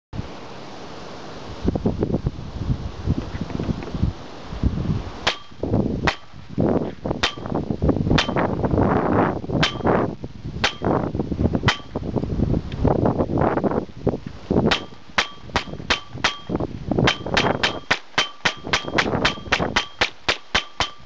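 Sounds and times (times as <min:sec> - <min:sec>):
wind noise on microphone: 0:01.4 - 0:21.0.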